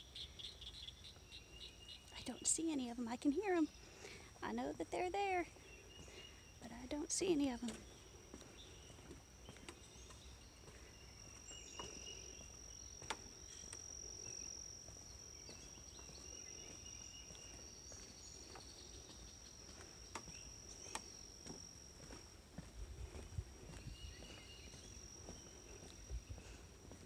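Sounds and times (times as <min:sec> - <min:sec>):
high-pitched insect trill: 0:00.0 - 0:27.0.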